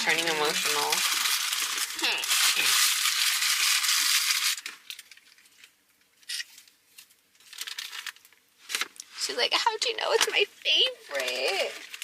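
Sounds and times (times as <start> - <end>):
food wrapper crinkling: 0.0 - 9.2, 10.2 - 12.0.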